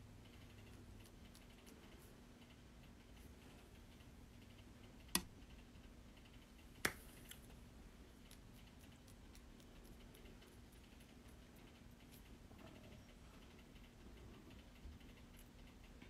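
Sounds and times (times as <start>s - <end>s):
quiet room hum: 0.0s - 16.0s.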